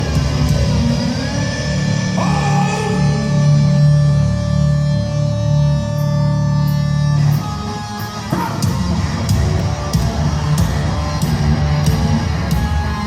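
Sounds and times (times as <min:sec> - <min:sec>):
hard rock band playing: 0:00.0 - 0:13.0.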